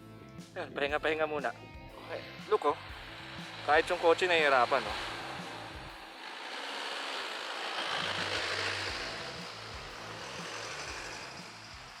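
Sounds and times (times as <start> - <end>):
car engine labouring uphill: 0.0 - 12.0.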